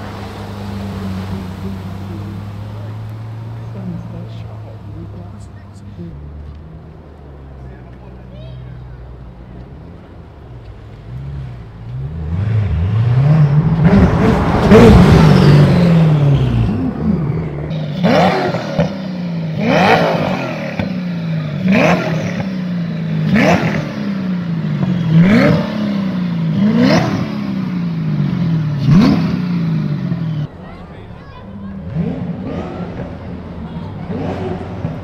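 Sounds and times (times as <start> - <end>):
car engine accelerating and revving: 0.0 - 35.0.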